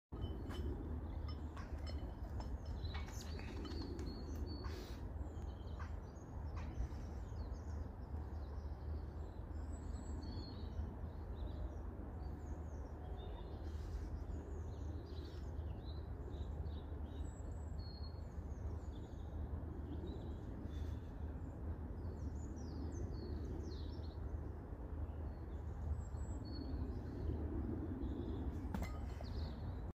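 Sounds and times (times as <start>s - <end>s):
low outdoor rumble: 0.1s - 29.9s
small birds chirping: 0.2s - 29.7s.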